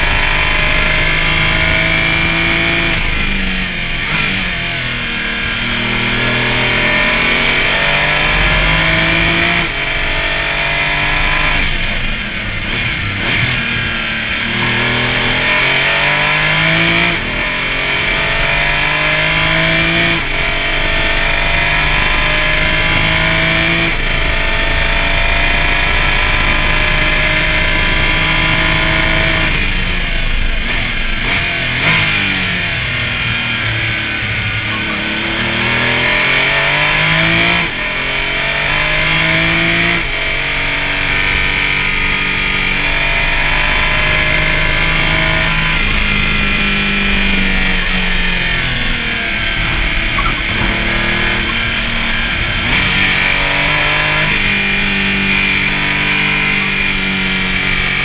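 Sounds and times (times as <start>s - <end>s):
race car engine revving: 0.0s - 58.0s
wind and tyre noise: 0.0s - 58.0s.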